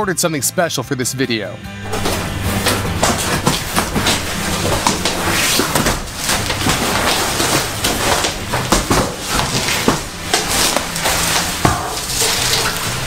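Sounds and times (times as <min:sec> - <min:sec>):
packaging crackling and rustling: 0:01.9 - 0:13.0.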